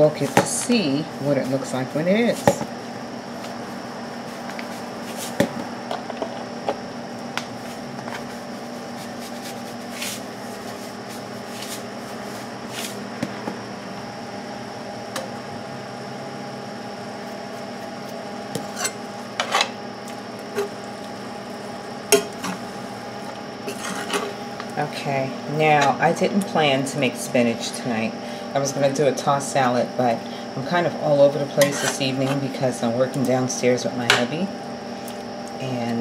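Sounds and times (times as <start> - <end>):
kitchen background hum: 0.0 - 36.0.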